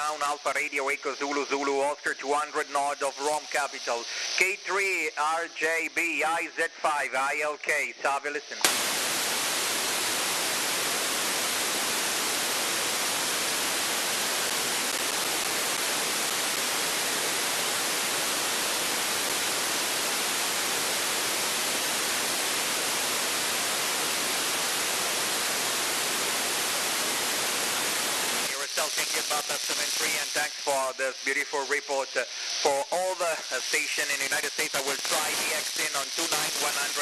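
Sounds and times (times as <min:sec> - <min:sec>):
radio static hiss: 0:00.0 - 0:37.0.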